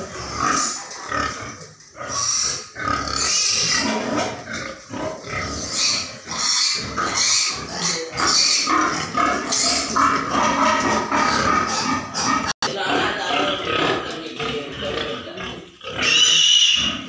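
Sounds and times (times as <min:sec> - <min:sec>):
pigs calling: 0:00.0 - 0:17.0.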